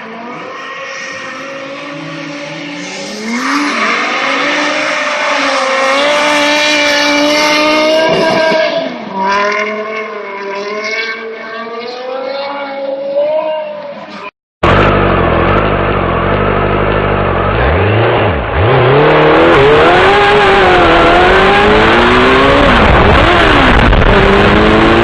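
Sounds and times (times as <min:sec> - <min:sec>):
car engine revving hard: 0:01.4 - 0:13.4, 0:14.6 - 0:25.0.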